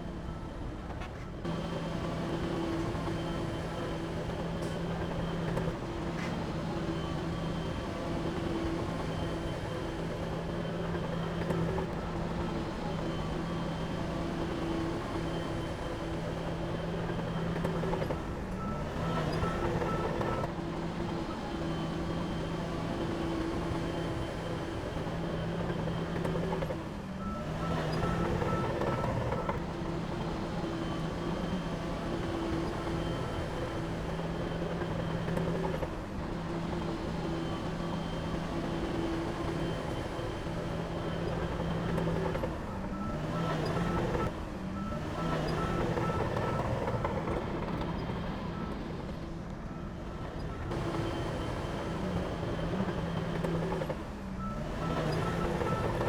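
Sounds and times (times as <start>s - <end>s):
heavy diesel engine running: 1.4s - 56.0s
reversing alarm beeping: 1.4s - 56.0s.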